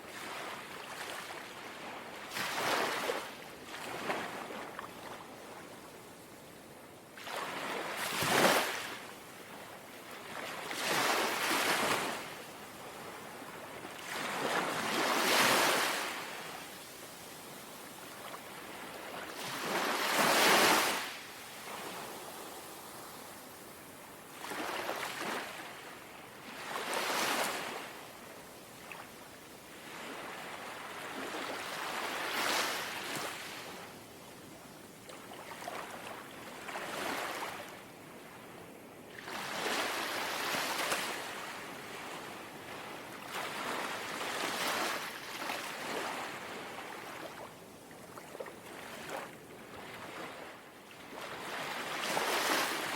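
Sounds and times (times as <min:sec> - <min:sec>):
small waves lapping on shore: 0:00.0 - 0:06.4, 0:07.2 - 0:52.9.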